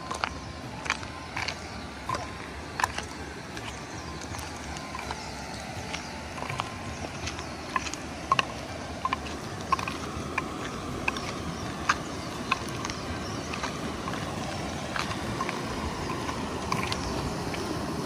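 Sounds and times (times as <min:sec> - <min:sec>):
river running over rocks: 0:00.0 - 0:18.0.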